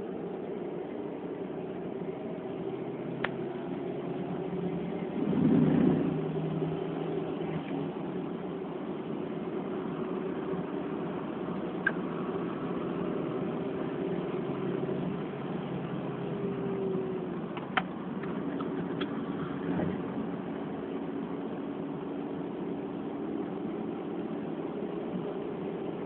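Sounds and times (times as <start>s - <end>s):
car engine running: 0.0s - 26.0s
road and wind noise: 0.0s - 26.0s.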